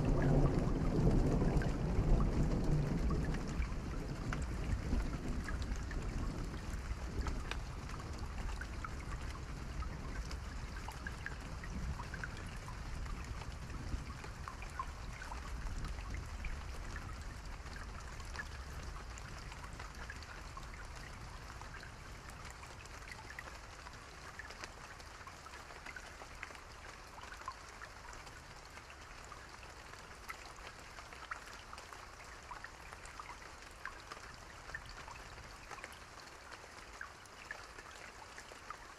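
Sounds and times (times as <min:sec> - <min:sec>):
rain drops pattering: 0:00.0 - 0:38.9.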